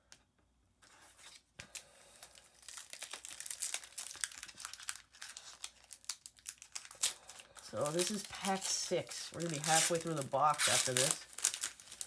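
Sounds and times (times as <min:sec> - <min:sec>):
card pack wrapper tearing and crinkling: 0:01.2 - 0:12.0.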